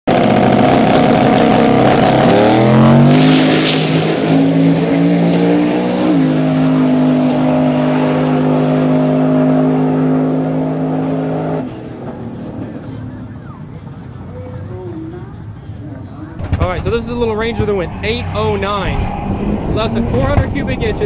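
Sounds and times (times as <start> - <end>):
truck engine running loudly: 0.1 - 21.0.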